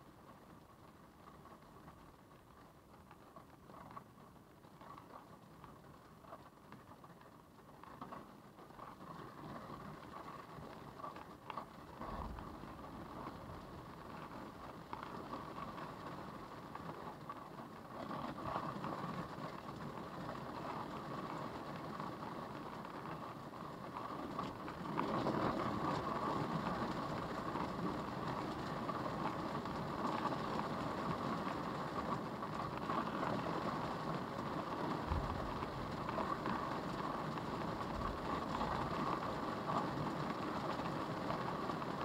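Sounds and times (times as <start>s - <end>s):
storm wind and rain on car: 0.0s - 42.0s.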